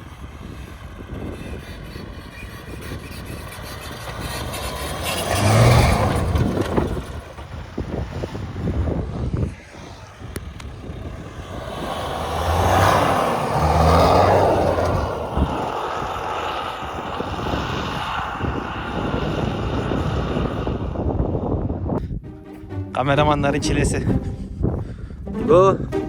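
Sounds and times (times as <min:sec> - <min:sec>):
pickup engine in snow: 0:00.0 - 0:21.8.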